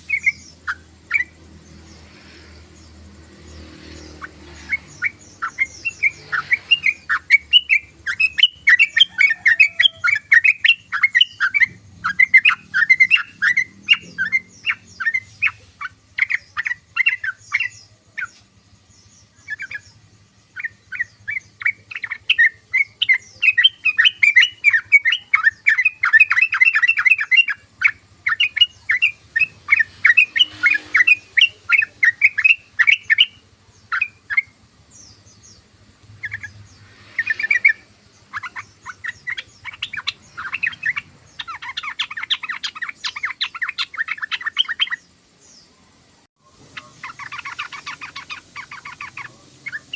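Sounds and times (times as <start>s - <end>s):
bulbul singing chattering song: 0.0s - 49.9s.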